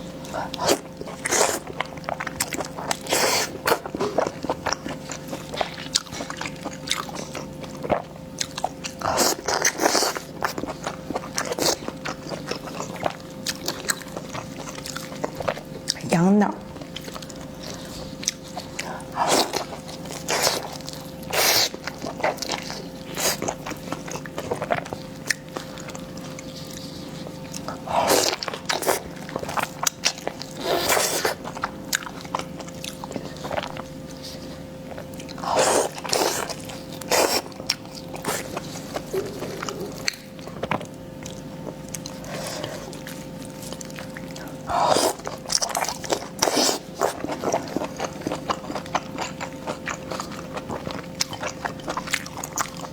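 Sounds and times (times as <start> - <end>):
faint steady hum: 0.0 - 52.9
person chewing and biting: 0.2 - 16.1, 16.7 - 52.9.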